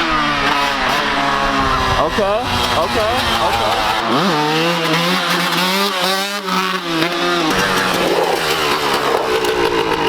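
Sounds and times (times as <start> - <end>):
dirt bike engine at high revs: 0.0 - 10.0.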